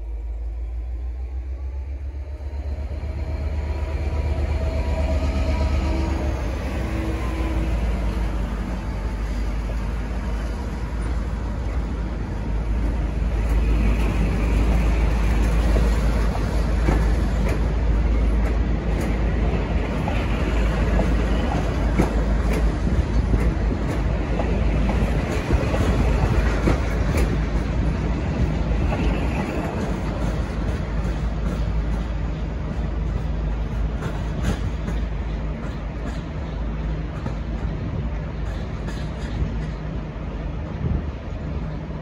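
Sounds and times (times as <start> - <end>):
train carriages rumbling: 0.0 - 42.0.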